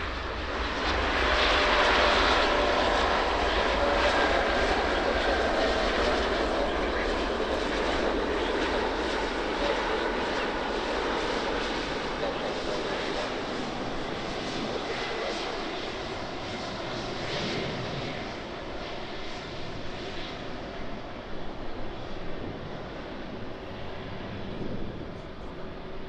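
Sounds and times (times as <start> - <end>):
jet engines rushing: 0.0 - 26.0.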